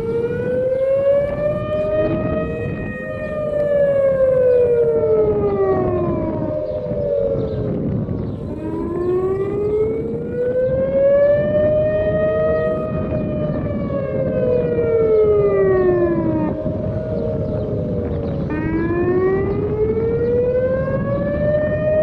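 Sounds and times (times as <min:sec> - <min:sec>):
warning sirens wailing: 0:00.0 - 0:22.0.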